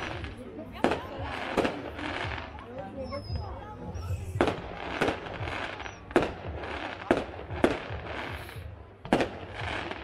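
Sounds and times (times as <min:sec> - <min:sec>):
fireworks bangs with echo: 0:00.0 - 0:10.0.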